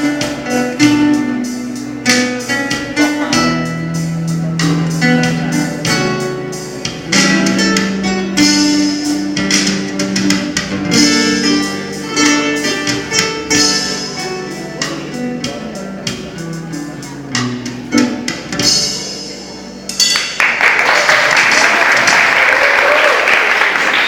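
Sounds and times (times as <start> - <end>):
solo instrumental music: 0.0 - 20.1.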